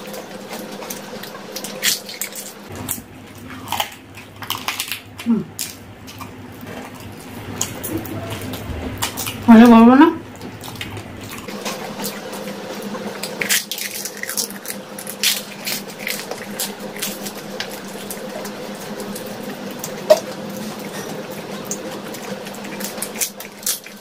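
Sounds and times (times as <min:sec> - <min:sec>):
steady low hum: 0:00.0 - 0:24.0
wet squishy chewing: 0:00.0 - 0:24.0
crisp shells crunching: 0:00.5 - 0:09.5, 0:10.4 - 0:24.0.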